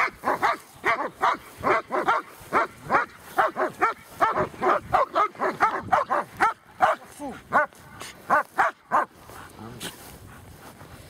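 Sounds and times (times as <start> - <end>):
dog barking rapidly: 0.0 - 9.2.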